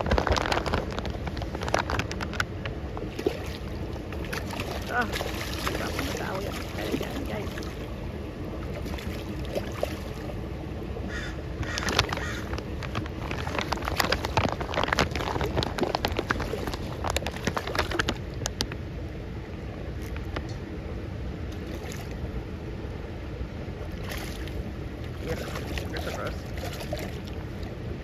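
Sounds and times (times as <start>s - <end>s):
fish splashing: 0.0s - 18.7s, 21.5s - 22.2s, 23.8s - 27.8s.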